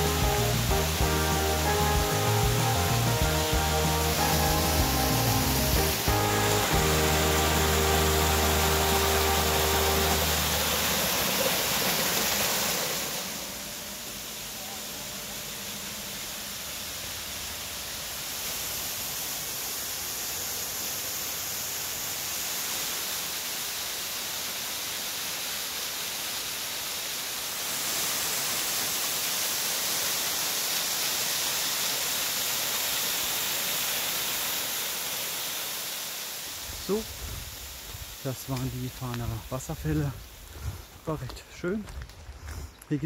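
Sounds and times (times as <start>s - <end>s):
waterfall splashing: 0.0s - 41.7s.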